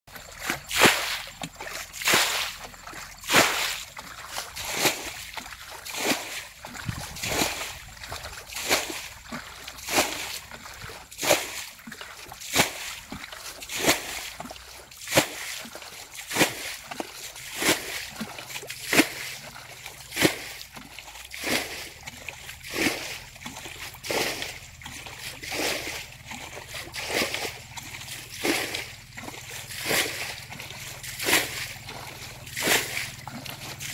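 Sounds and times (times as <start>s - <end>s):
water splashing from bailing: 0.1s - 33.9s.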